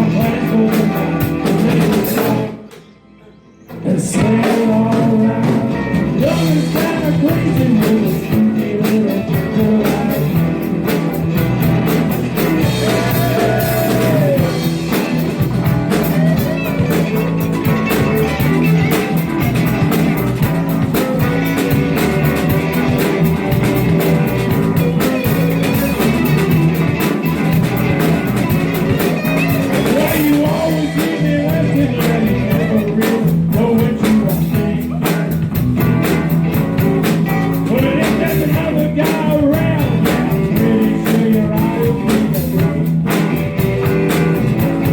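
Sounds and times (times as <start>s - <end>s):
blues-rock band playing: 0.0s - 44.9s
electric guitar: 0.0s - 44.9s.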